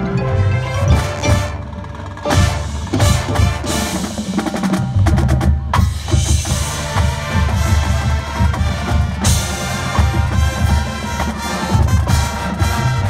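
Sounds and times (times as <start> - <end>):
drumline drums: 0.0 - 13.0
marching band playing: 0.0 - 13.0.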